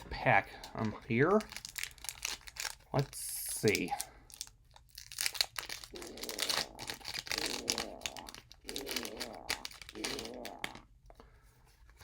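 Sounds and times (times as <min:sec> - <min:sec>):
foil wrapper crinkling and tearing: 0:01.2 - 0:10.9.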